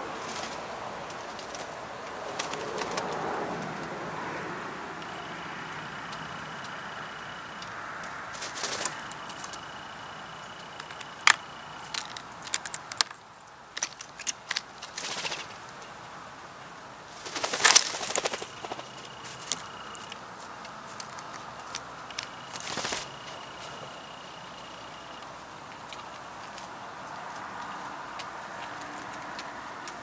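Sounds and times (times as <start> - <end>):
small birds' wings fluttering: 0.0 - 4.0, 5.0 - 16.1, 17.0 - 30.0.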